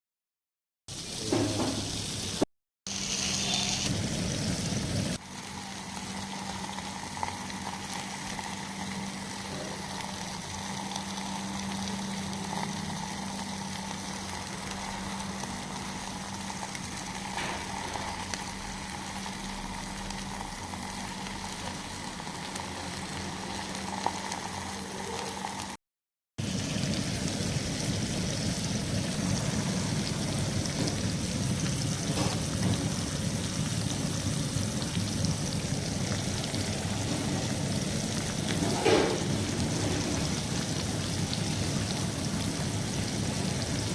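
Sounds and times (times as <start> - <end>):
fish frying in hot oil: 0.9 - 25.8, 26.4 - 43.9.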